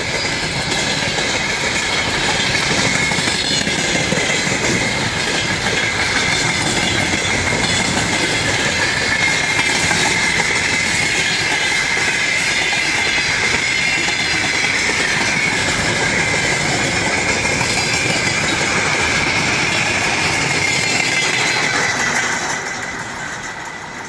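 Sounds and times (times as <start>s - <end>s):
clickety-clack of train wheels: 0.0s - 24.0s.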